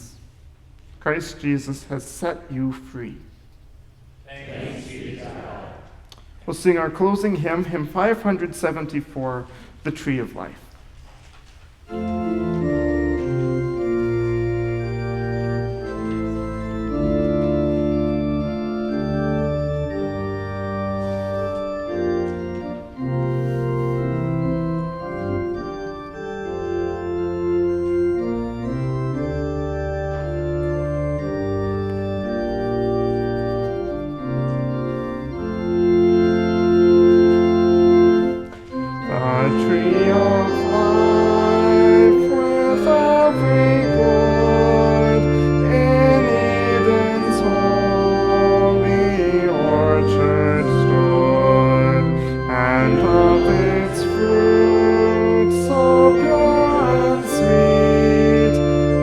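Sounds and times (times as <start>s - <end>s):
congregation singing a hymn: 4.3s - 6.0s, 11.9s - 59.0s
organ playing held chords: 6.5s - 10.4s, 11.9s - 59.0s.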